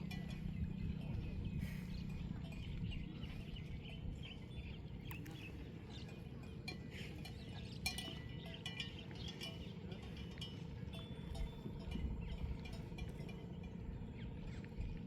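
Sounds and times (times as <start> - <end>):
bells clinking on buffalo: 0.0 - 15.0
steady low rumble: 0.0 - 15.0.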